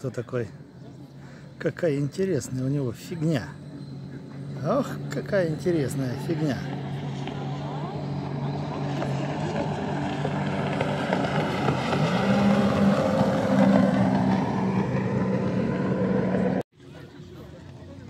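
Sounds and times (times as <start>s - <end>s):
jet ski engine passing: 0.2s - 16.6s.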